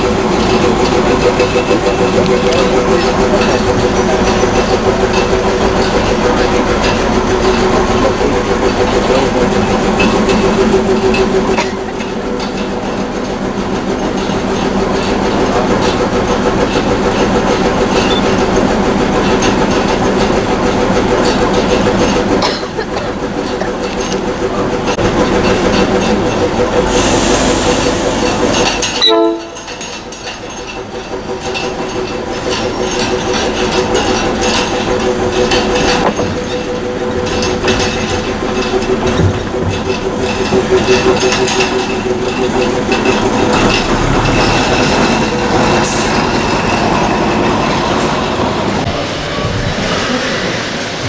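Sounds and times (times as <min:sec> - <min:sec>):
diesel locomotive engine idling: 0:00.0 - 0:51.0.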